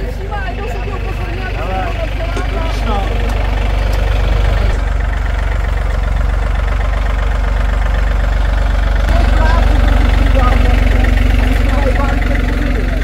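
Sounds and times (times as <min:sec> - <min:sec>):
large engine idling: 0:00.0 - 0:13.0.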